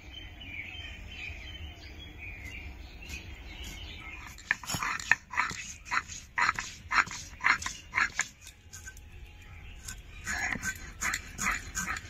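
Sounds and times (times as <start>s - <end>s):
birds chirping: 0.0s - 12.0s
steady background noise: 0.0s - 12.0s.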